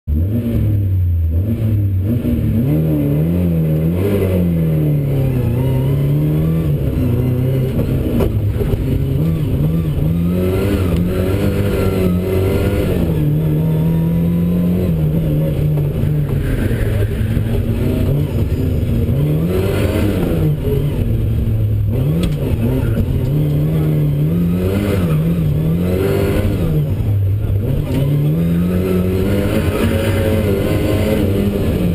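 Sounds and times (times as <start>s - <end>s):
car engine revving: 0.1s - 31.9s.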